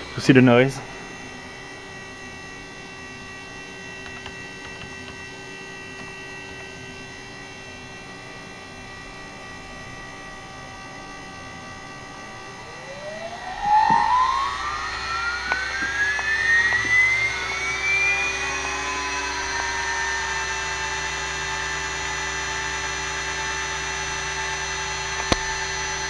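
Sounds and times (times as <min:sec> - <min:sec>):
spindle motor hum and whine: 0:00.0 - 0:26.0.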